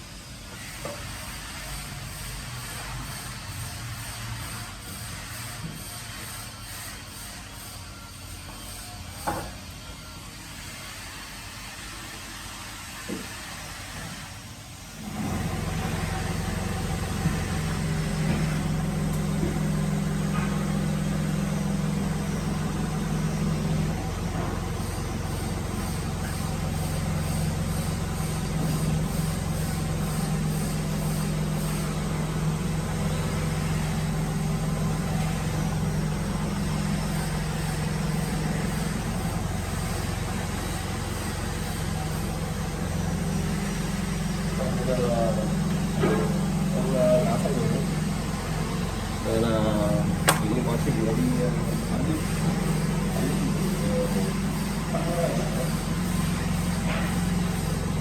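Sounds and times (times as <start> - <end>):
woodworking machine motor hum: 10.6 - 58.0.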